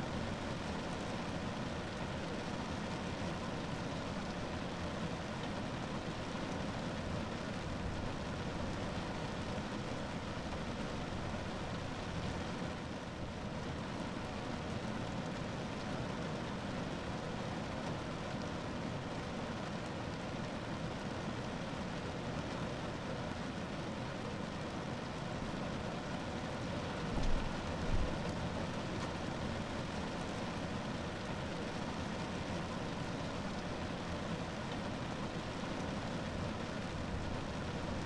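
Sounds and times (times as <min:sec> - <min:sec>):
rain on a car roof: 0:00.0 - 0:38.0.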